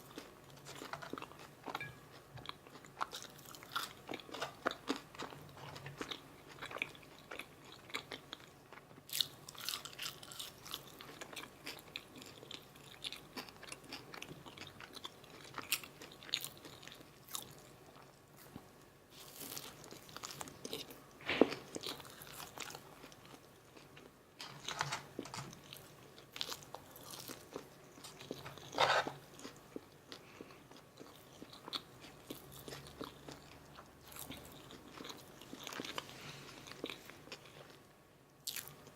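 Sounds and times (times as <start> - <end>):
crunching and wet chewing: 0.0 - 24.1, 25.6 - 37.8, 38.4 - 38.9.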